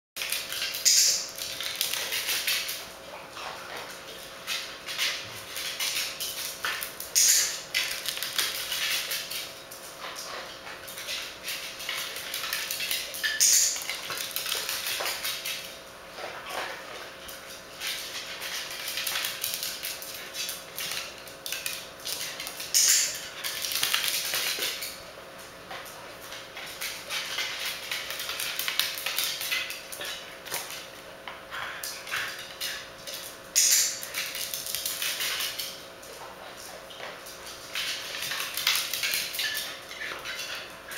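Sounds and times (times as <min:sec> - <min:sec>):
dog paws tapping on tile floor: 0:00.2 - 0:40.9.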